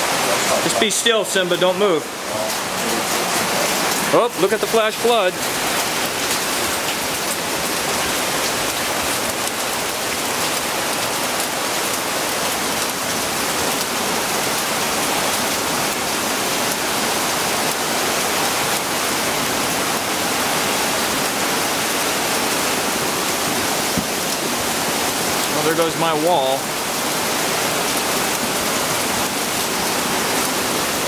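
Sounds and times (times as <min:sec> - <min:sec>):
heavy downpour: 0:00.0 - 0:31.0
rushing flood water: 0:00.0 - 0:31.0.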